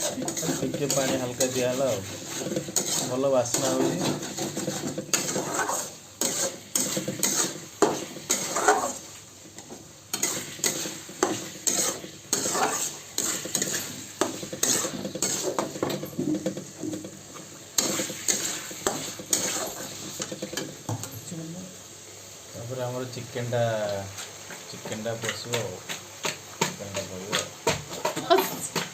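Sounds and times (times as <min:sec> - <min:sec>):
spoon scraping a pan: 0:00.0 - 0:21.3, 0:24.1 - 0:28.9
curry sizzling: 0:00.0 - 0:28.9.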